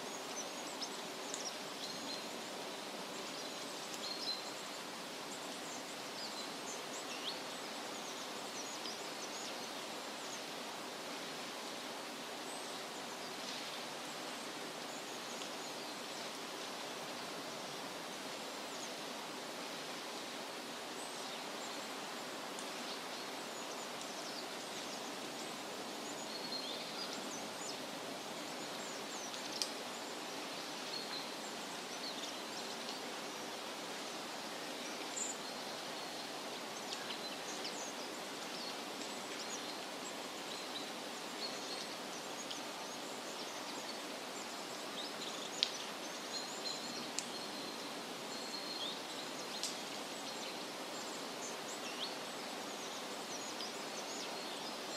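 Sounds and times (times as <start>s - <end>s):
outdoor background noise: 0.0s - 54.9s.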